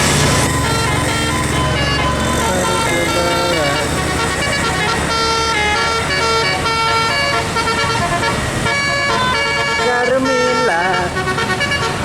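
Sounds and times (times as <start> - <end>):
bus engine rumble: 0.0 - 12.0
musical air horn playing a tune: 0.6 - 12.0.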